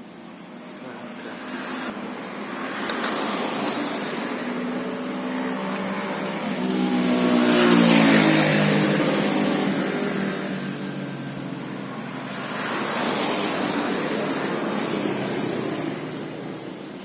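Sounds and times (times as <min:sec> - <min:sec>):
vehicle engine revving: 0:01.2 - 0:16.3.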